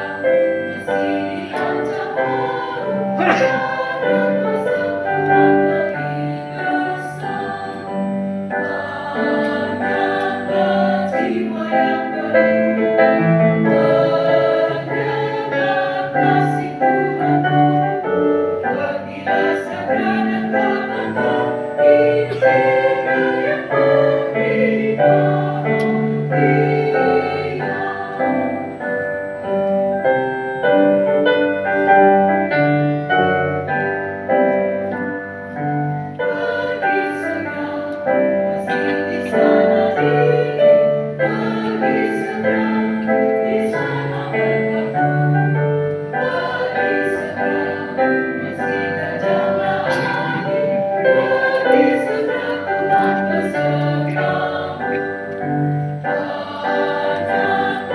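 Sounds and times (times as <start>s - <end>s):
choir singing a hymn: 0.0s - 57.9s
piano accompaniment: 0.0s - 57.9s.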